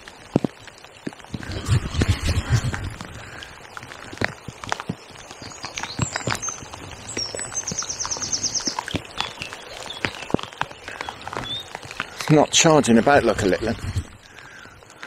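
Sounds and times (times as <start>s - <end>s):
raindrops tapping: 0.0s - 15.0s.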